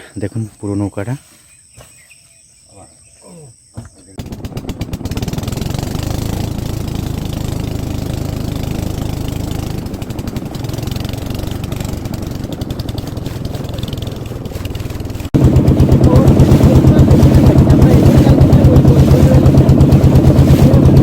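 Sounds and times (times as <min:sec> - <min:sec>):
boat engine running: 0:04.2 - 0:21.0.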